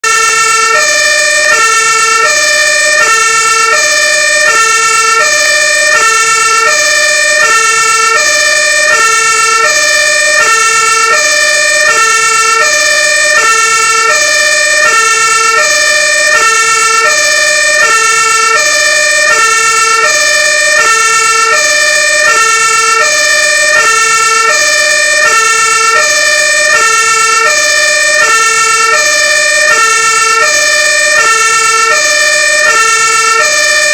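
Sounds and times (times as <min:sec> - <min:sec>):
two-tone siren: 0:00.0 - 0:33.9.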